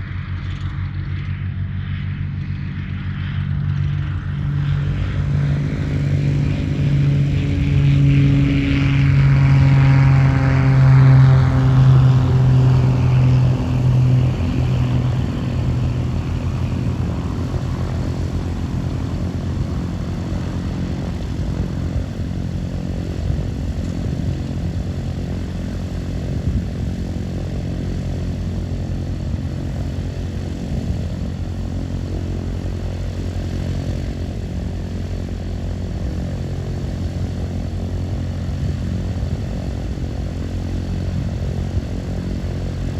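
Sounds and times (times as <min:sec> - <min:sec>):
propeller aircraft engine passing: 0:00.0 - 0:42.9.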